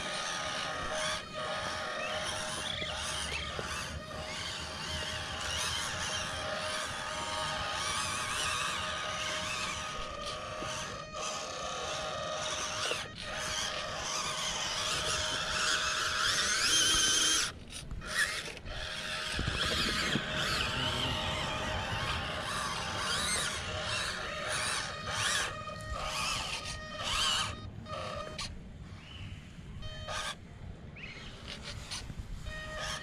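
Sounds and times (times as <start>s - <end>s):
toy car motor and gears whining: 0.0s - 28.5s, 29.8s - 30.4s, 31.0s - 33.0s.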